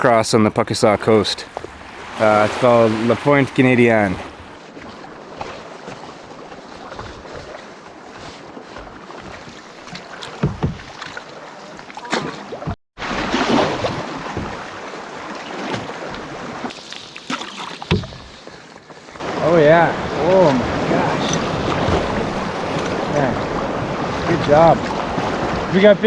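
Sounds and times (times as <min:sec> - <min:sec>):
paddle strokes splashing: 0:00.0 - 0:25.8
water splashing around canoe: 0:00.0 - 0:26.0.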